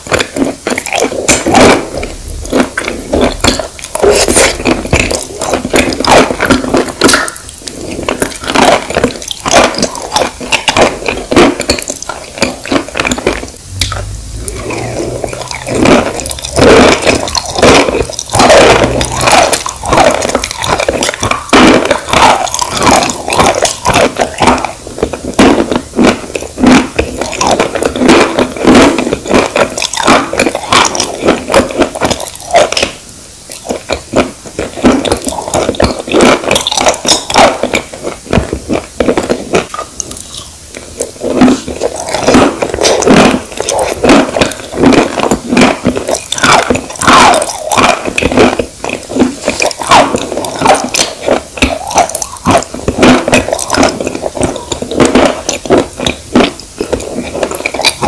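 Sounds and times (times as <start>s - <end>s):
crunching and wet chewing: 0.0s - 58.0s.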